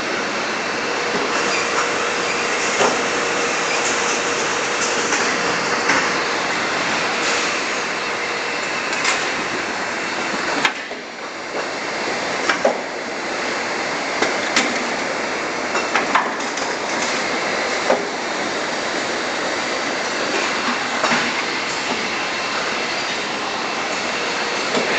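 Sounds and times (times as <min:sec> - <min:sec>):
packing machinery running: 0:00.0 - 0:24.9.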